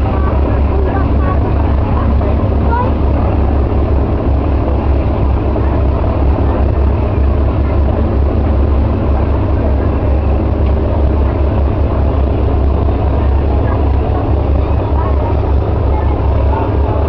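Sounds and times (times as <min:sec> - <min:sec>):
ferry engines rumbling: 0:00.0 - 0:17.0.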